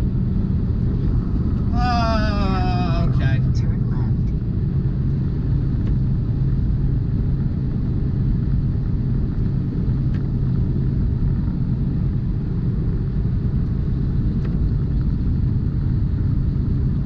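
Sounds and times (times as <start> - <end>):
road noise: 0.0 - 17.0
truck diesel engine rumble: 0.0 - 17.0.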